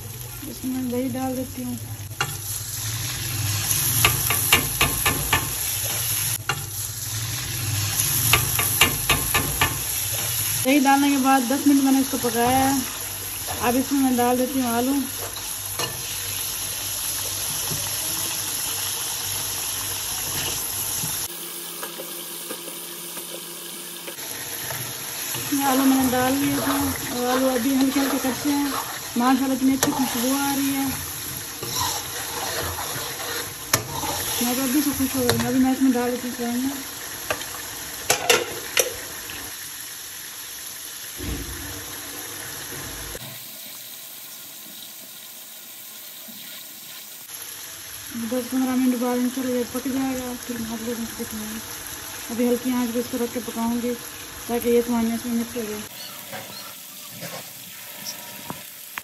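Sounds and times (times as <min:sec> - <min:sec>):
gravy sizzling and bubbling: 0:00.0 - 0:59.0.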